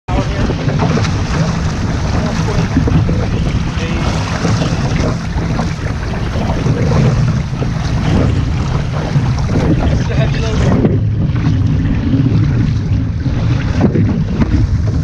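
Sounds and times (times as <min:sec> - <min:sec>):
water rushing along a hull: 0:00.0 - 0:15.0
paddle splashes: 0:00.1 - 0:15.0
wind buffeting microphone: 0:00.1 - 0:15.0.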